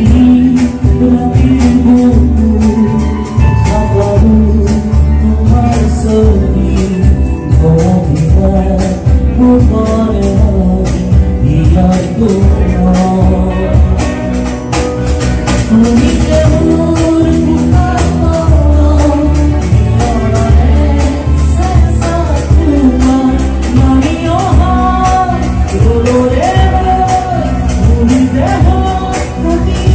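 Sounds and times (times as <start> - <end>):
person singing: 0.0 - 14.5, 15.4 - 29.9
bass line: 0.0 - 29.9
guitar: 0.0 - 29.9
percussion beat: 0.0 - 29.9.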